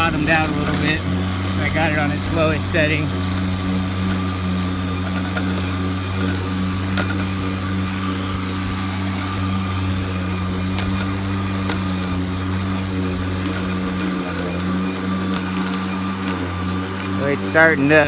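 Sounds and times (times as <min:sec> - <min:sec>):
electric lawn mower humming: 0:00.0 - 0:18.0.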